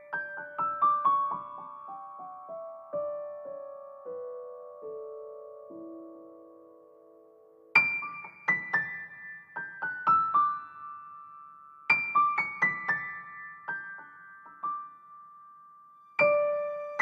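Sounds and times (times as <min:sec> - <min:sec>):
gentle keyboard music: 0:00.0 - 0:17.0.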